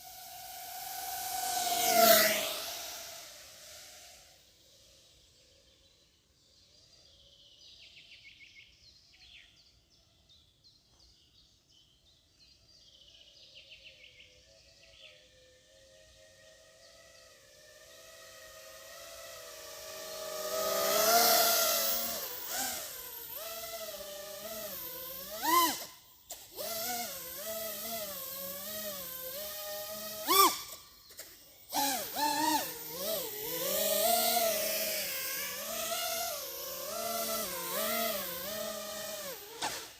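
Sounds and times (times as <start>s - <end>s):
quadcopter motors whining: 0.0s - 10.3s, 12.4s - 39.9s.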